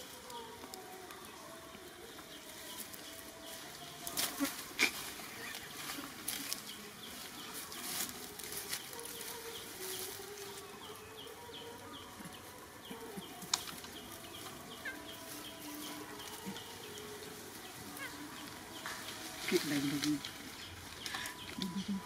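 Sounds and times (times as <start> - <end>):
rustle of dry leaf litter: 0.0 - 22.0.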